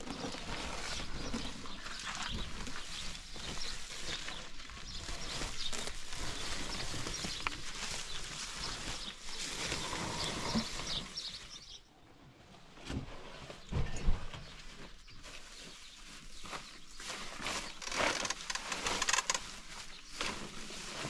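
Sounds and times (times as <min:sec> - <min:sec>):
tarp and sacks rustling: 0:00.0 - 0:11.8, 0:12.6 - 0:21.0.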